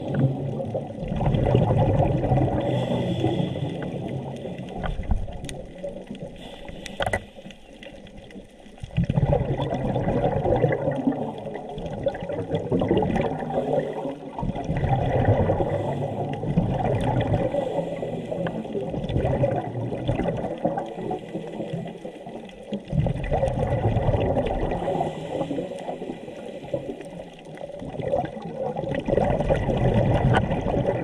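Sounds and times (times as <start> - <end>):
diver exhaling bubbles underwater: 0.0 - 7.2, 8.8 - 31.0.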